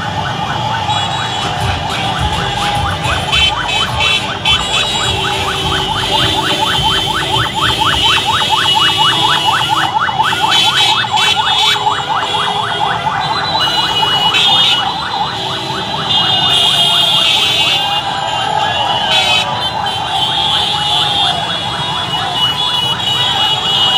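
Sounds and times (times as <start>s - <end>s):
electronic siren yelping: 0.0s - 23.9s
large street crowd: 0.0s - 23.9s.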